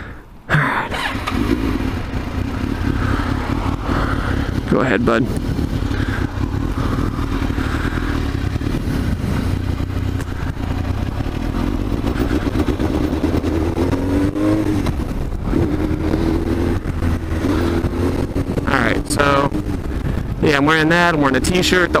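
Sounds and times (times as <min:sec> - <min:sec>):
motorcycle engine accelerating: 0:01.0 - 0:22.0.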